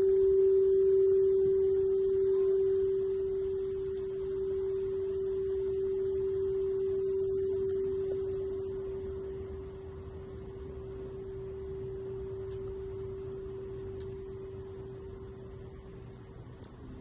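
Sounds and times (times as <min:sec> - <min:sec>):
singing bowl ringing: 0:00.0 - 0:16.2.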